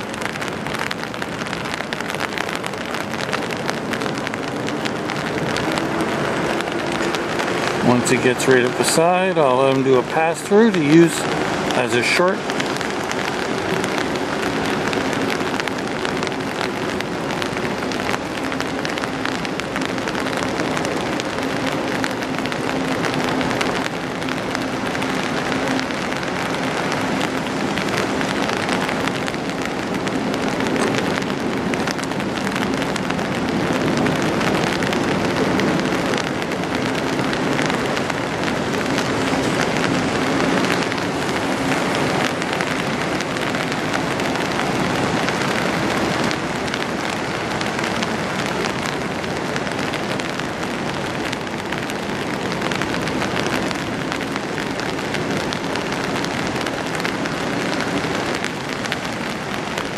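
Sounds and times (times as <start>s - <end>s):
rain on an umbrella: 0.0s - 59.9s.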